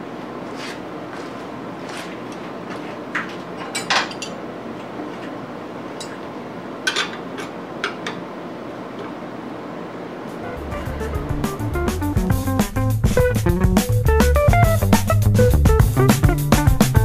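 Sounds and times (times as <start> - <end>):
low room hum: 0.0 - 16.6.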